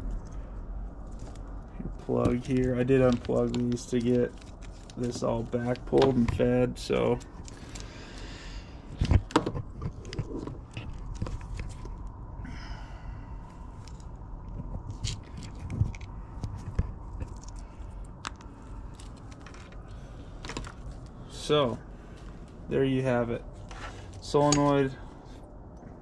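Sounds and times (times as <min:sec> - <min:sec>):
wires rustling: 0:00.0 - 0:12.2, 0:13.4 - 0:25.9
faint steady hum: 0:00.0 - 0:26.0.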